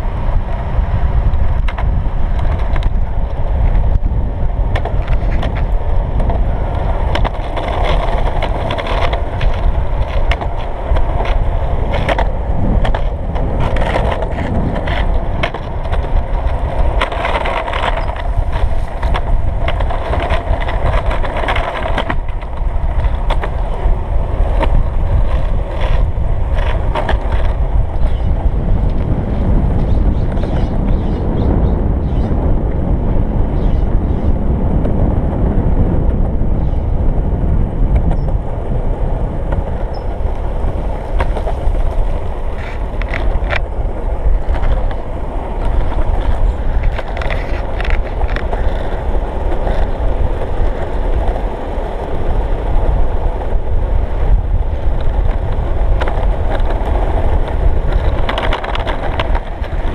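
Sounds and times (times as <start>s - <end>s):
skateboard wheels rolling on asphalt: 0.0s - 59.9s
wheels clicking over cracks: 0.0s - 59.9s.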